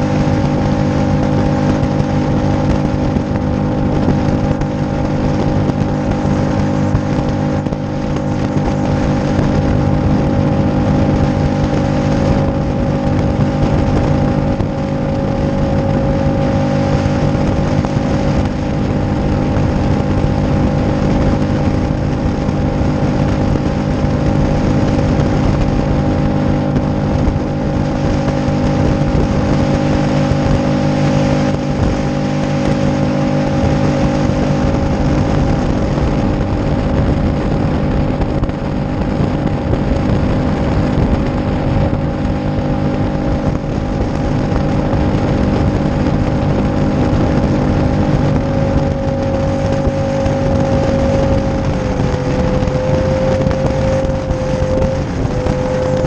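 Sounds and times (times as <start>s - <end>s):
outboard motor running: 0.0s - 56.0s
wind and water rushing: 0.0s - 56.0s.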